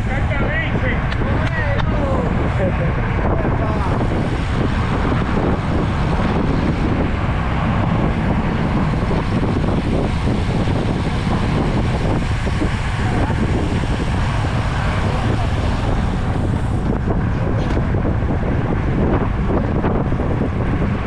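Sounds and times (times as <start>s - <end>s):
low rumble of moving bicycle: 0.0s - 21.0s
wind rush on microphone: 0.0s - 21.0s.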